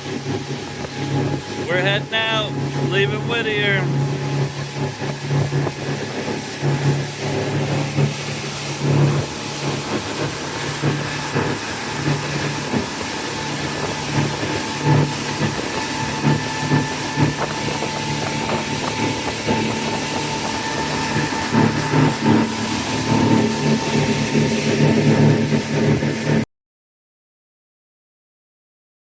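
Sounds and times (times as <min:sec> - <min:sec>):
boat engine humming: 0:00.0 - 0:26.4
hiss of wind and water: 0:00.0 - 0:26.4.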